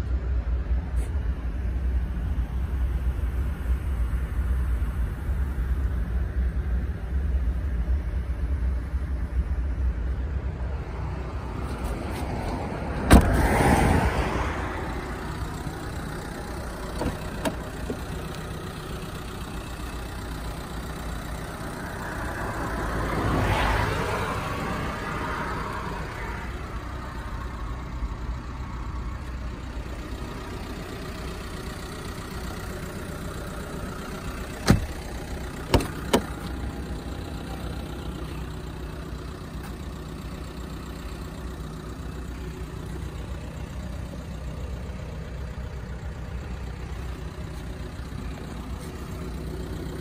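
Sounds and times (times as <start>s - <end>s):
low engine hum: 0.0s - 50.0s
passing vehicle: 0.0s - 50.0s.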